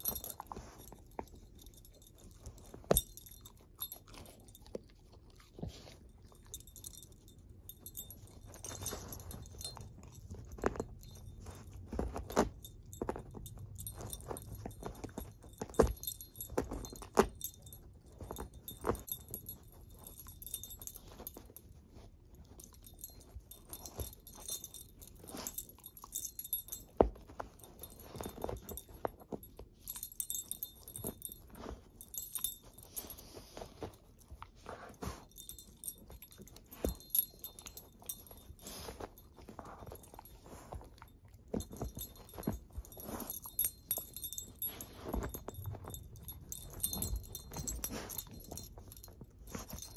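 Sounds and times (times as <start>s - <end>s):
collar tags jingling: 0.0s - 49.9s
dog chewing fabric toy: 0.0s - 49.9s.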